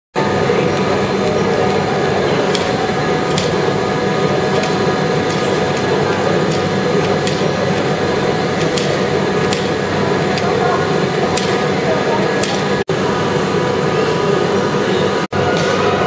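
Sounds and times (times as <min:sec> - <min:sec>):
train machinery humming: 0:00.2 - 0:16.0.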